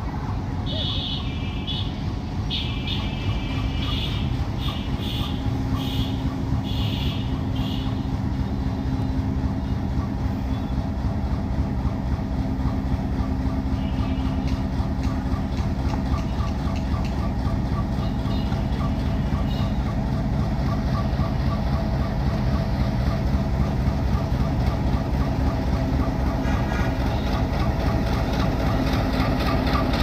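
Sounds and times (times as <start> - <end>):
diesel locomotive engine droning: 0.0 - 30.0.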